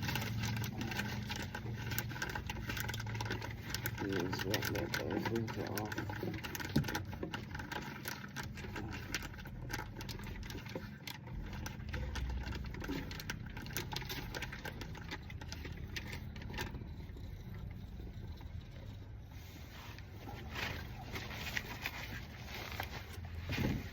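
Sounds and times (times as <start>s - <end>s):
low background hum: 0.0s - 23.9s.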